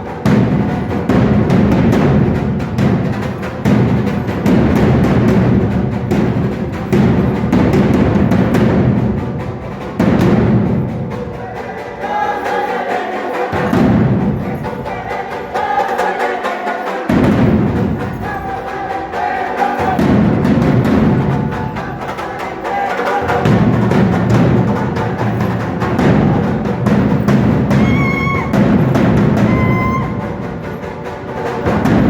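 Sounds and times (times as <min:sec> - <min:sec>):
drum-led percussion music: 0:00.0 - 0:32.0.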